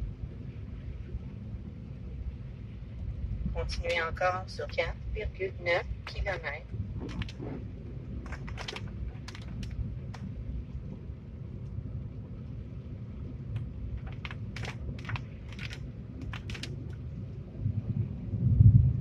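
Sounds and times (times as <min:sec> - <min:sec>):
rain ticking on windshield: 0:00.0 - 0:18.3
road and engine rumble: 0:00.0 - 0:19.0.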